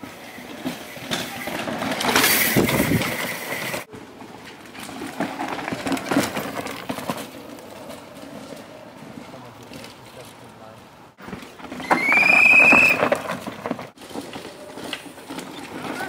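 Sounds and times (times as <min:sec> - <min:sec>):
bikes knocking and rattling: 0:00.0 - 0:16.0
tyres skidding on dirt and rock: 0:00.0 - 0:16.0.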